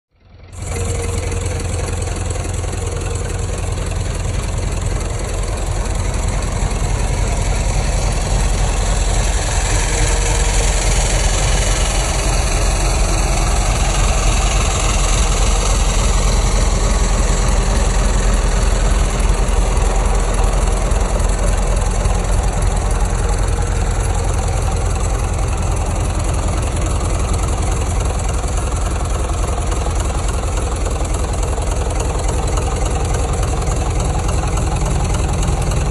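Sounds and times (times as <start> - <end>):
diesel truck engine idling: 0.2 - 35.9.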